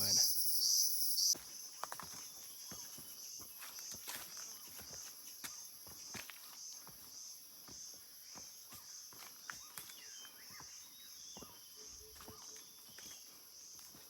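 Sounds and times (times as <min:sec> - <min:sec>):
insects singing: 0:00.0 - 0:14.0
footsteps on a trail: 0:01.3 - 0:14.0.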